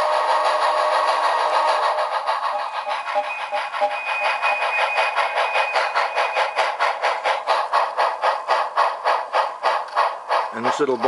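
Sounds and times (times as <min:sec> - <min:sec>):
tinny steam locomotive chuffing: 0:00.0 - 0:11.0.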